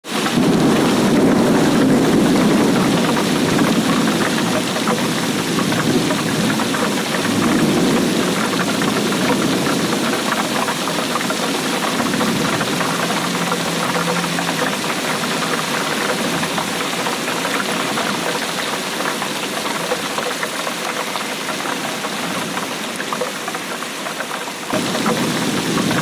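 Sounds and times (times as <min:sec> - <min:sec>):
rain drops pattering: 0:00.0 - 0:26.0.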